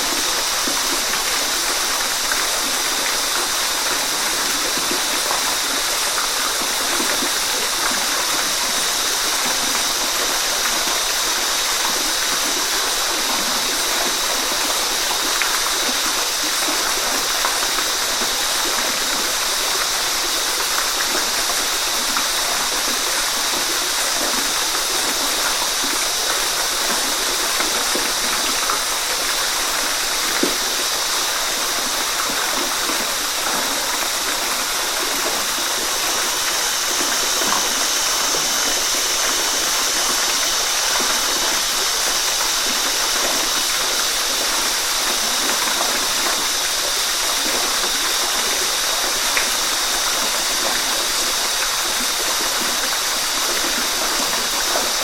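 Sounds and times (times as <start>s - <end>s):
water splashes: 0.0s - 55.0s
waterfall rushing: 0.0s - 55.0s.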